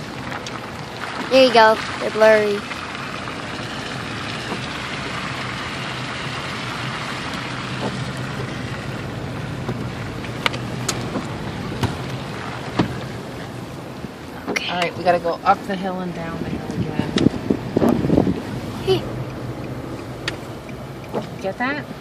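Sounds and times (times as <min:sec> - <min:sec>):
road and engine noise in car: 0:00.0 - 0:22.0.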